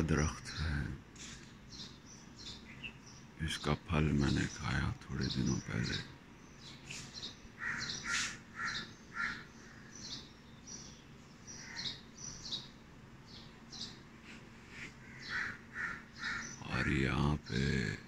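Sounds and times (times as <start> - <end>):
birds calling and chirping: 0.0 - 18.0.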